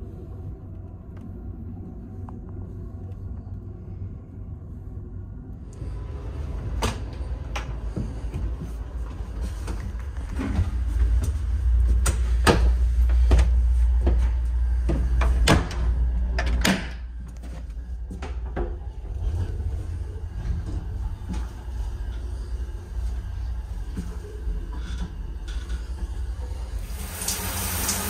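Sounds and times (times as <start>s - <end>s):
train car rumble: 0.0s - 27.2s.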